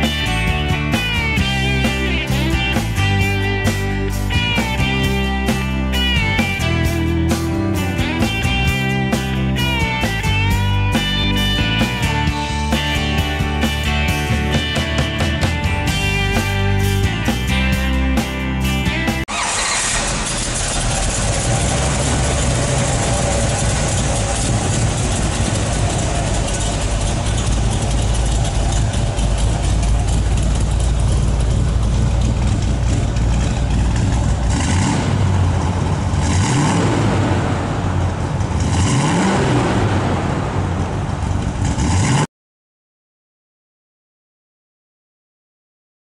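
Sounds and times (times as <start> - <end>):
car engine running and revving: 0.0 - 42.3.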